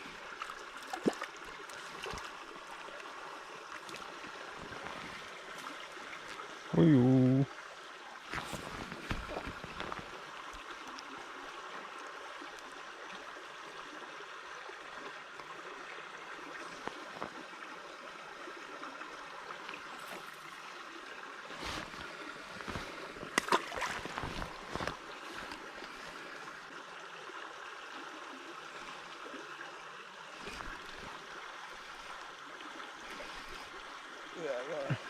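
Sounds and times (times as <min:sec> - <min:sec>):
small river running: 0:00.0 - 0:35.0.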